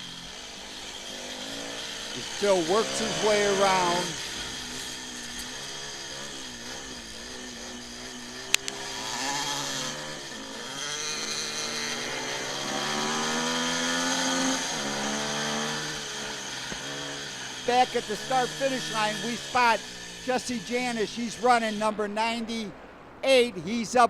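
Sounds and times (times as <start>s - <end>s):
motorcycle engine revving: 0.0s - 23.5s.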